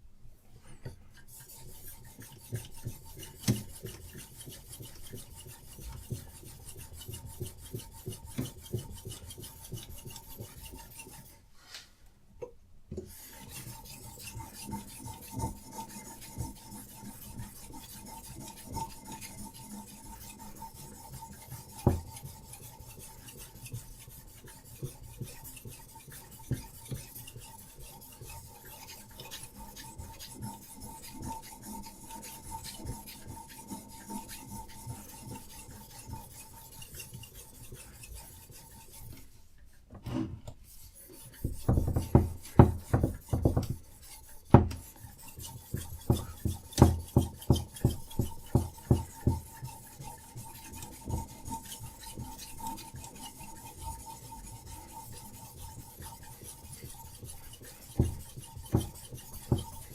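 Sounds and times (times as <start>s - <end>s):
sharpening stone scraping knife: 1.2s - 11.4s, 13.1s - 39.2s, 42.4s - 59.9s.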